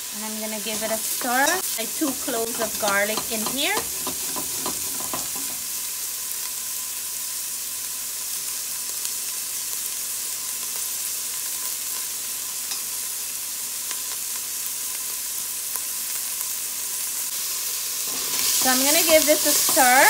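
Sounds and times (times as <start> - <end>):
onions sizzling in a pot: 0.0 - 20.0.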